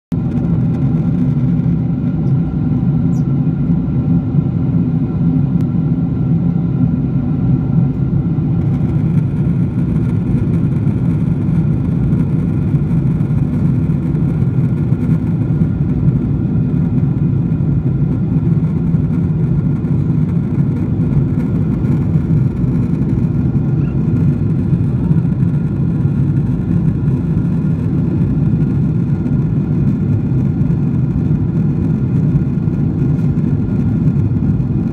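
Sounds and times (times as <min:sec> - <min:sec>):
airliner cabin drone: 0:00.1 - 0:34.9.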